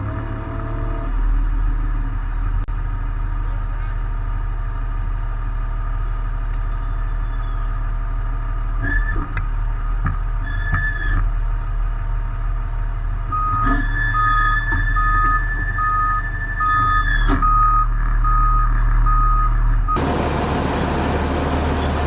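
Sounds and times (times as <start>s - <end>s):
tow tug engine running: 0.0s - 22.0s.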